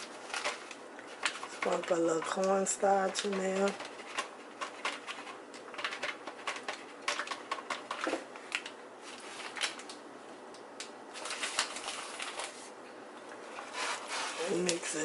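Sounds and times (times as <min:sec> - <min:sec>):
powder sprinkling taps and rustles: 0:00.0 - 0:12.7.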